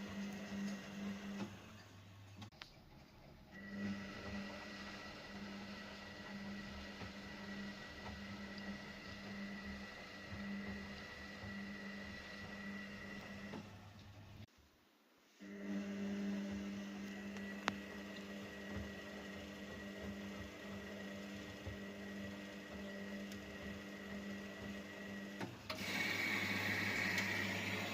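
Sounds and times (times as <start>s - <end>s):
washing machine motor humming: 0.0s - 14.5s, 15.4s - 27.9s.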